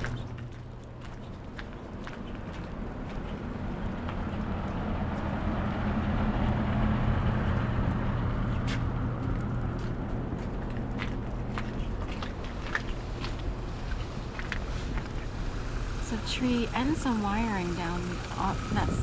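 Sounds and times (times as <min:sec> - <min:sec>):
vehicle engine low hum: 0:00.0 - 0:19.0.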